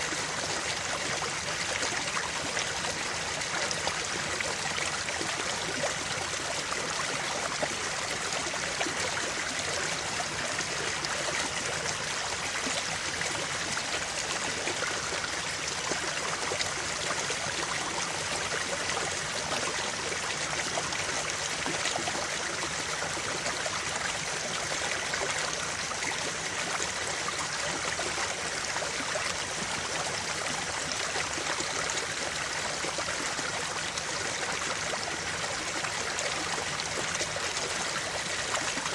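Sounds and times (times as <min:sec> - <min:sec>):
creek water flowing over stones: 0:00.0 - 0:38.9.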